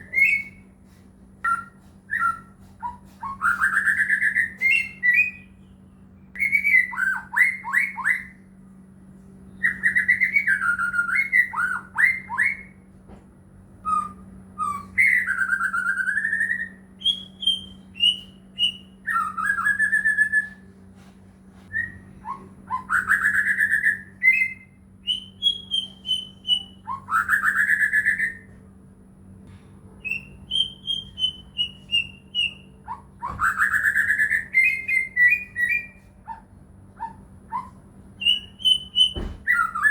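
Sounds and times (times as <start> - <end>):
songbird whistling phrases: 0.0 - 0.7, 1.4 - 5.8, 6.4 - 8.5, 9.5 - 12.8, 13.8 - 20.7, 21.7 - 28.5, 30.0 - 36.4, 37.0 - 39.9.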